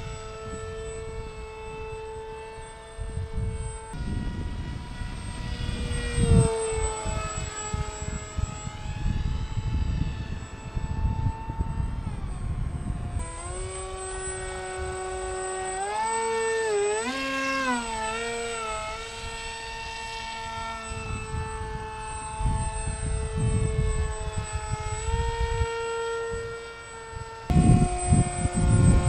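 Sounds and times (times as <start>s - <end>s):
rc plane motor whine: 0.0s - 29.0s
wind rumble on microphone: 0.0s - 29.0s.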